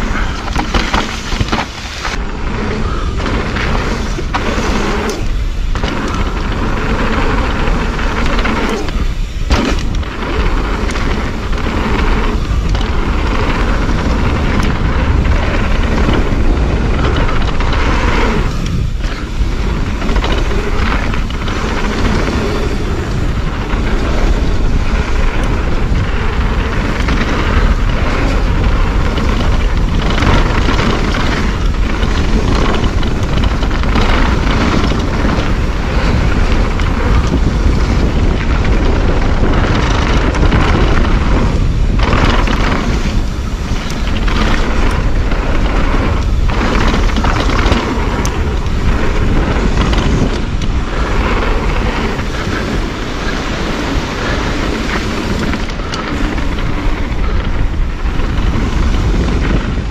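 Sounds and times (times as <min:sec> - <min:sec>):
bike rattling over rough trail: 0:00.0 - 0:59.9
wind buffeting microphone: 0:00.0 - 0:59.9.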